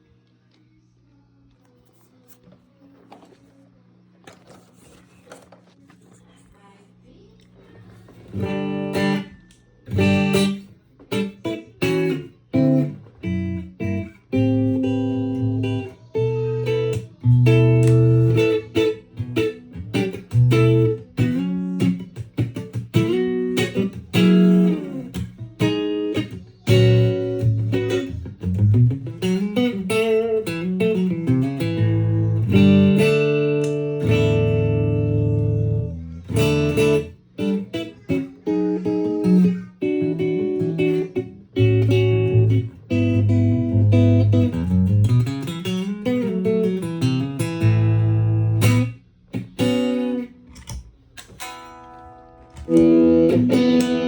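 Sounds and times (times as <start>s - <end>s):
electric guitar notes and chords: 8.3s - 54.0s.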